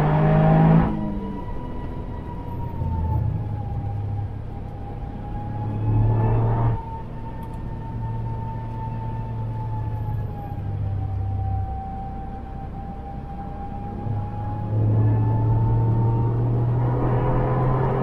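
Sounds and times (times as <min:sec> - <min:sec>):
car engine hum in cabin: 0:00.0 - 0:18.0
high turbo whine: 0:00.0 - 0:18.0.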